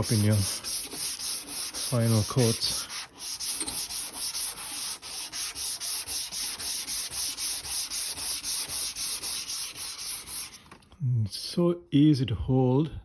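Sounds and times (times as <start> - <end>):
sandpaper rubbing on paint: 0.0 - 10.7.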